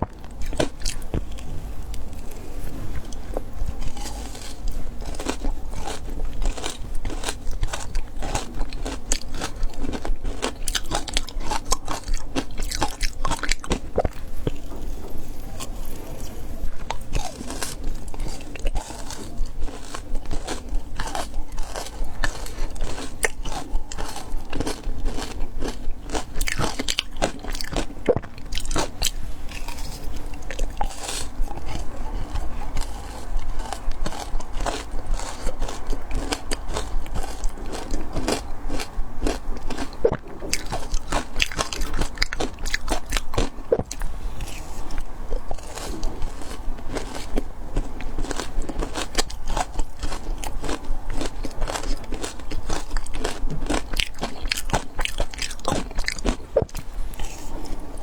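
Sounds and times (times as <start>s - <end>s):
chewing and crunching ice: 0.0s - 58.0s.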